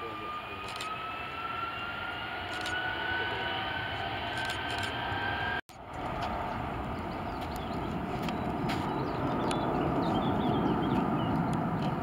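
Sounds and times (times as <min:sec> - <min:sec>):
jet engines at takeoff power: 0:00.0 - 0:12.0.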